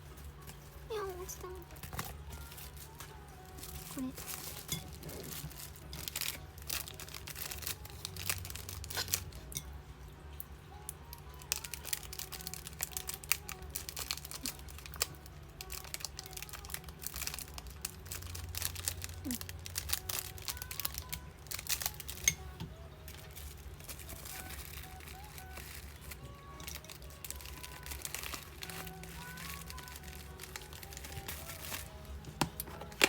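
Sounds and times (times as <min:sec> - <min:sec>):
plastic packaging crinkling: 0:00.1 - 0:09.5, 0:11.1 - 0:22.4, 0:23.1 - 0:33.0.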